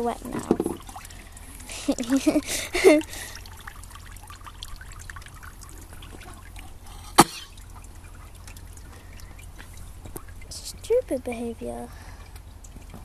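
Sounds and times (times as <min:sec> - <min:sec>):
small splashes in water trough: 0:00.0 - 0:13.0
water trickling and dripping: 0:00.0 - 0:13.0.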